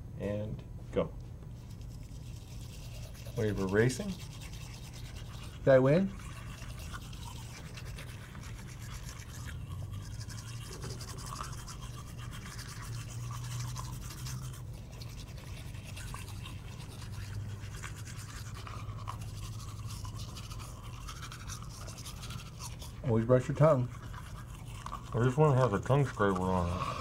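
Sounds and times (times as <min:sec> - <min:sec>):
toothbrushes scrubbing teeth: 0:01.6 - 0:27.0.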